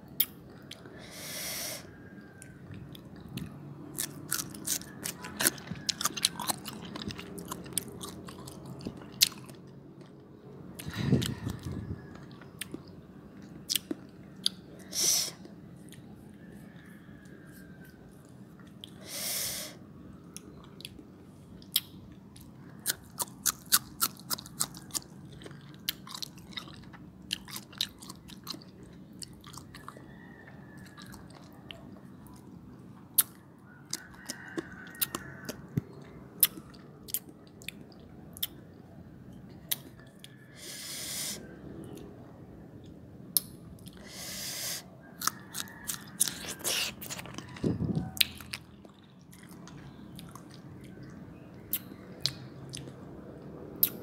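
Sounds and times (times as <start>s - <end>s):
crunchy chewing: 0.1s - 38.7s, 39.4s - 42.1s, 42.8s - 53.0s.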